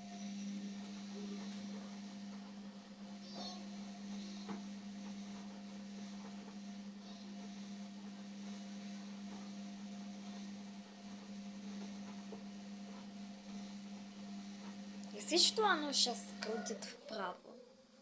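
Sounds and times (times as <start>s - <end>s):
washing machine running: 0.0s - 17.3s.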